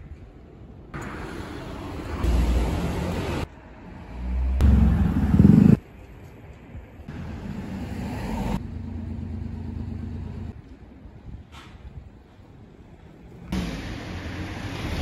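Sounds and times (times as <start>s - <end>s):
traffic hum: 0.0s - 15.0s
motor vehicle rumble: 1.0s - 15.0s.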